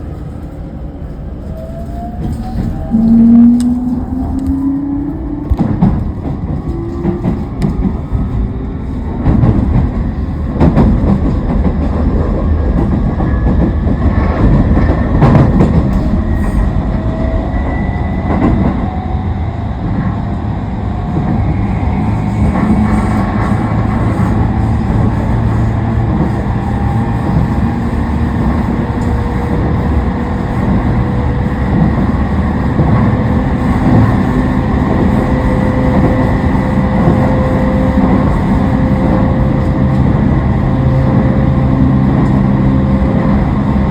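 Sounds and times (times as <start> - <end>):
wheels rumbling on rail: 0.0 - 43.9.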